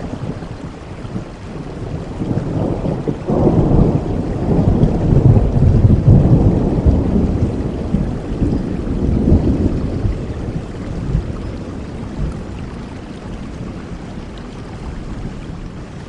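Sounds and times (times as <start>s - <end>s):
rolling thunder: 0.0s - 14.3s
steady rain: 0.0s - 16.0s.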